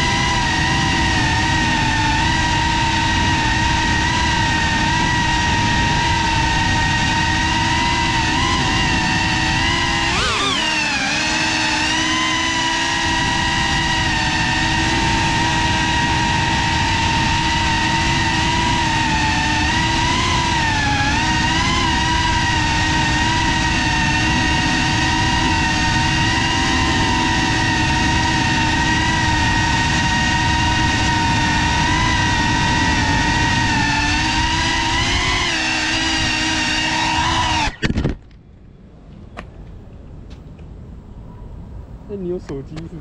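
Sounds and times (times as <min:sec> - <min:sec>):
quadcopter motors whining: 0:00.0 - 0:38.4.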